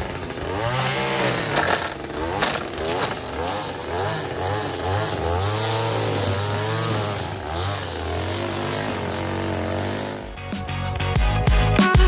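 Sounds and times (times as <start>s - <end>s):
string trimmer engine cutting grass: 0.0s - 10.5s.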